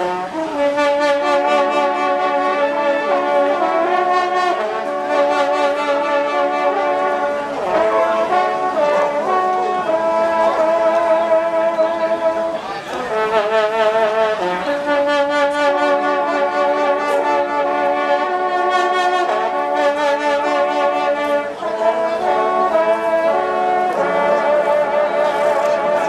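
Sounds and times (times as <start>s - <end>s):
horns playing held chords: 0.0s - 26.0s.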